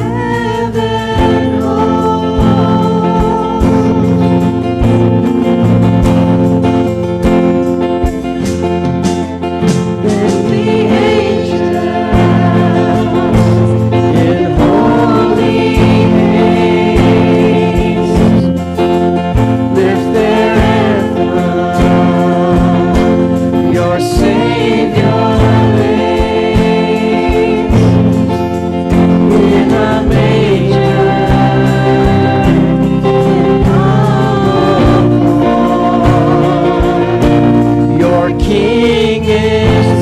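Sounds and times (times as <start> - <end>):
strummed guitar: 0.0 - 40.0
sustained chords: 0.0 - 40.0
voices singing worship song: 0.0 - 40.0.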